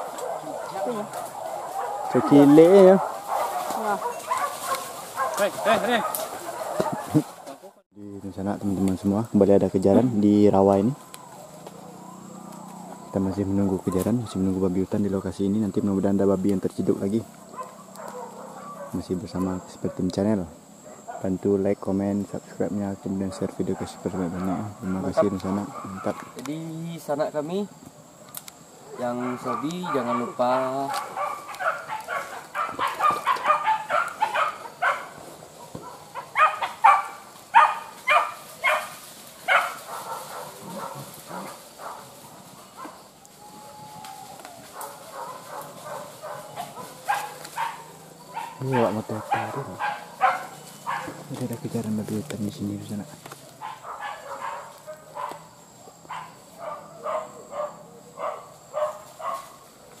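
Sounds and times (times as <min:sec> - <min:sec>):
dogs barking: 0:00.0 - 0:07.8, 0:09.9 - 0:14.7, 0:15.3 - 0:21.6, 0:23.0 - 0:26.6, 0:28.7 - 1:00.0.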